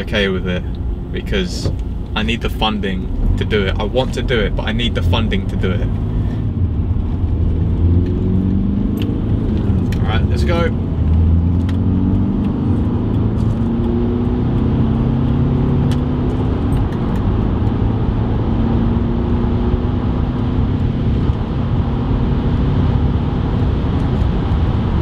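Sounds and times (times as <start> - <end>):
diesel car engine accelerating: 0.0 - 25.0.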